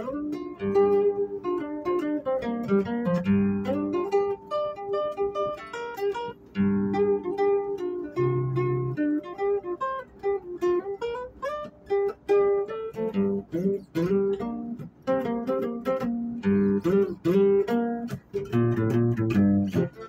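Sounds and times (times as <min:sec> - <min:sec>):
acoustic guitar melody: 0:00.0 - 0:20.0.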